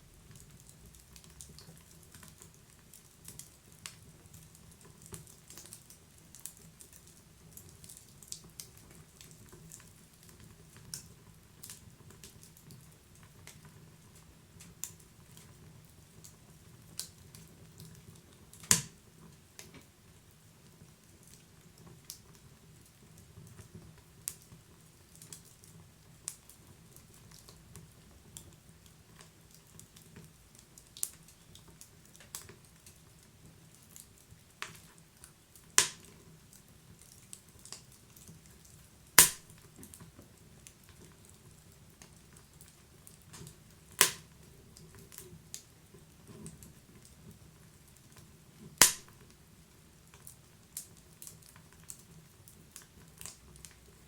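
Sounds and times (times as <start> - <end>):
faint low hiss: 0.0 - 54.0
wood fire crackling: 0.0 - 54.0.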